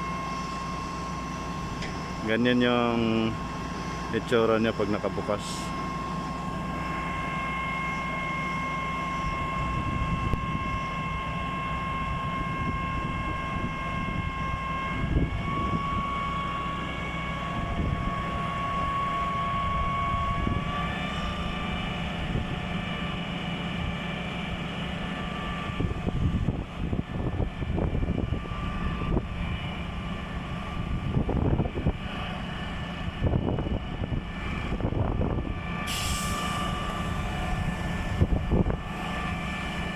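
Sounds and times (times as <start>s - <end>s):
concrete pump rumbling: 0.0s - 39.9s
high-pitched whine: 0.0s - 39.9s.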